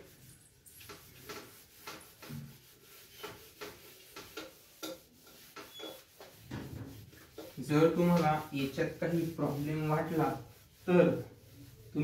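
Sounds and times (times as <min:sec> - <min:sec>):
eraser scrubbing whiteboard: 0:00.0 - 0:12.0.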